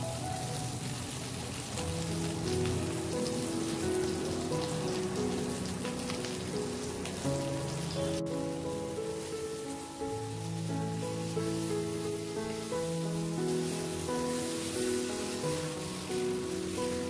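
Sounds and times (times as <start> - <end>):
background music of held notes: 0.0 - 17.0
eggplant sizzling in a pan: 0.0 - 17.0.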